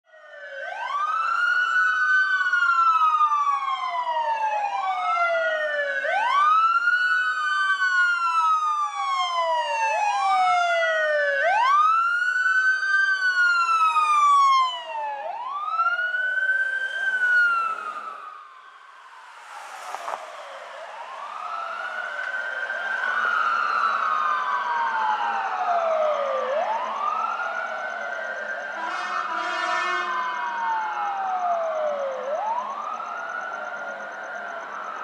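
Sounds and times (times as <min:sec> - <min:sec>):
sirens wailing: 0:00.1 - 0:35.0.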